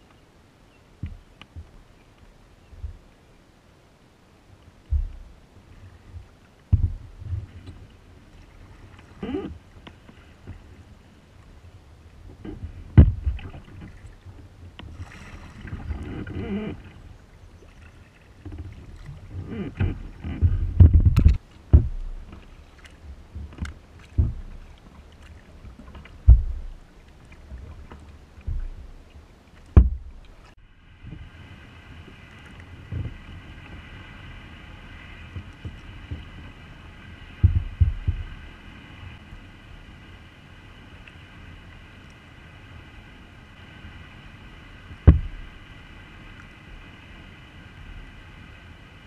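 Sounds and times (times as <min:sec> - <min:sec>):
paddle strokes splashing: 0:04.7 - 0:49.0.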